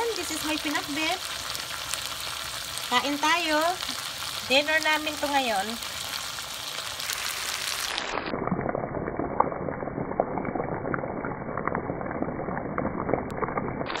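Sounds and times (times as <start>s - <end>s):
food sizzling in a frying pan: 0.0s - 11.2s, 13.8s - 14.0s.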